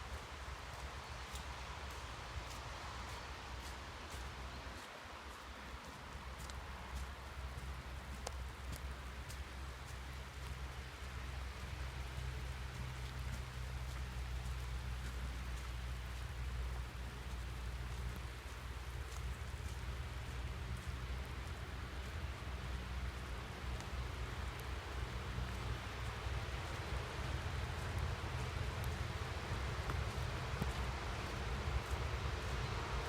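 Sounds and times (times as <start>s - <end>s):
rain falling in woodland: 0.0s - 33.0s
raindrops ticking: 0.1s - 33.0s.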